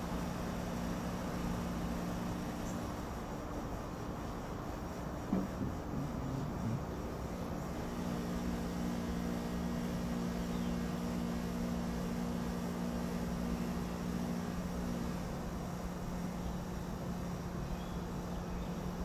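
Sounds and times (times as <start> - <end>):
low mechanical hum: 0.0 - 19.0
outdoor background noise: 0.0 - 19.0.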